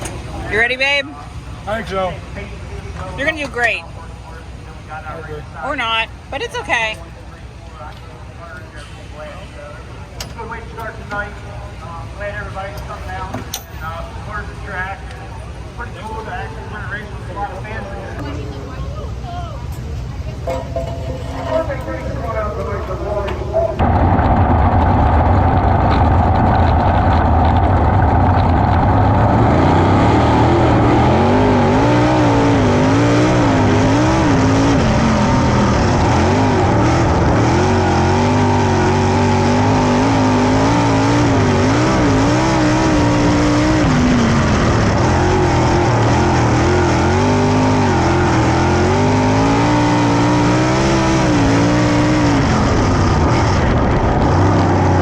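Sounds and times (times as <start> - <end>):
low engine drone: 0.0 - 55.0
race car engines accelerating: 0.0 - 55.0.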